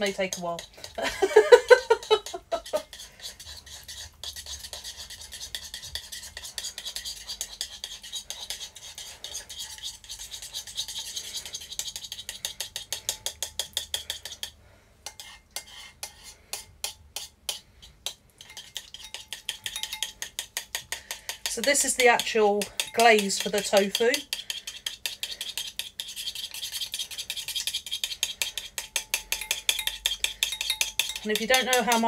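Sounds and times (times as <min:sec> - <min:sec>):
utensil beating against a bowl: 0:00.0 - 0:32.0.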